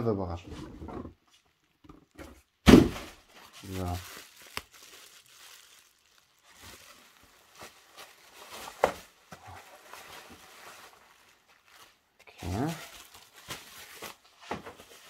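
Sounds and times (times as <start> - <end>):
bubble wrap rustling: 2.4 - 15.0.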